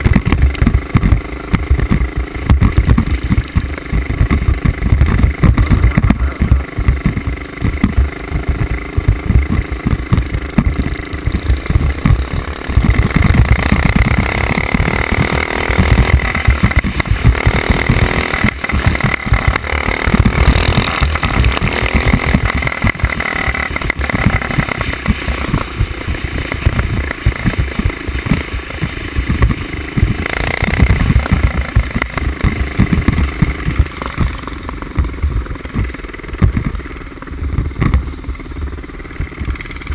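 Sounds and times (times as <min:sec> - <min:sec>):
mini bike engine revving: 0:00.0 - 0:39.9.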